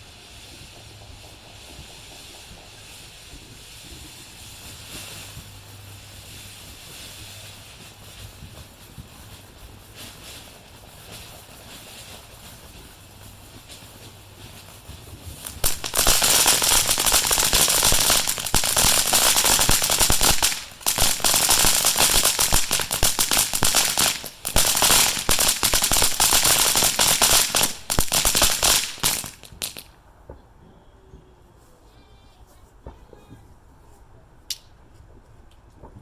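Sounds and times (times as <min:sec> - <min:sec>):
firecrackers crackling: 0:00.0 - 0:30.4.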